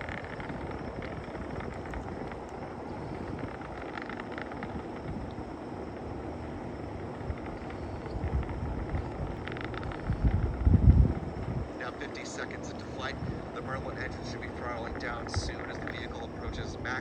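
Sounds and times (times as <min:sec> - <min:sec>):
distant rocket engine rumble: 0:00.0 - 0:17.0.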